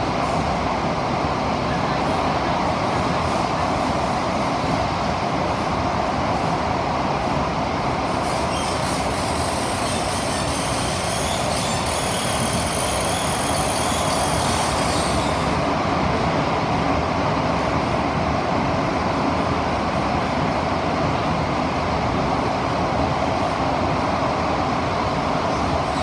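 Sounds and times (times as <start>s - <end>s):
metro train rumbling in tunnel: 0.0s - 26.0s.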